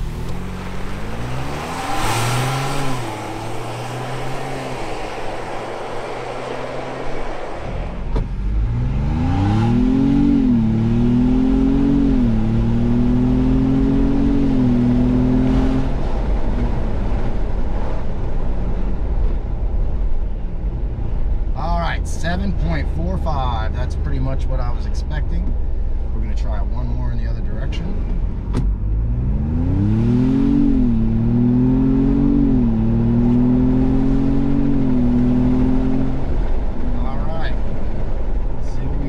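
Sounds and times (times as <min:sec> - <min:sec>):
car engine accelerating and shifting: 0:00.0 - 0:21.5, 0:22.4 - 0:39.0
tyre and road noise: 0:00.0 - 0:39.0.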